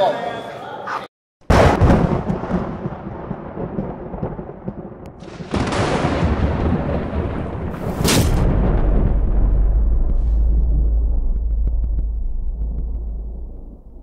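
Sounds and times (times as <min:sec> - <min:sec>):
sharp thunder crack: 0:01.4 - 0:14.0
thunder rumbling: 0:01.5 - 0:14.0.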